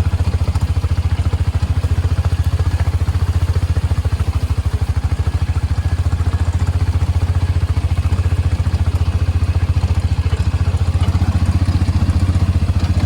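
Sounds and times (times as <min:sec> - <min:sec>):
small vehicle engine running: 0:00.0 - 0:13.0.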